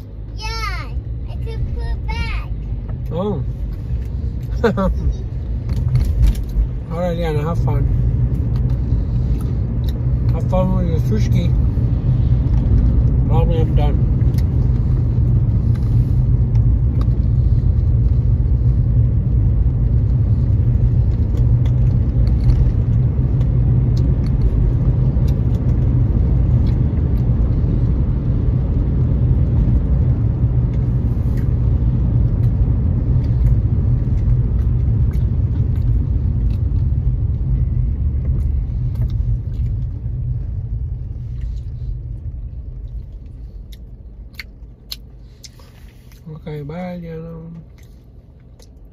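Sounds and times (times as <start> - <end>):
car road noise rumble: 0.0 - 48.9.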